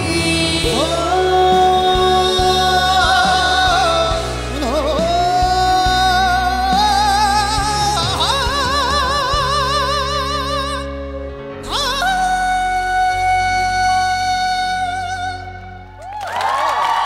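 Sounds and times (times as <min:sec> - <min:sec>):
backing music: 0:00.0 - 0:17.0
person singing ballad: 0:00.0 - 0:17.0.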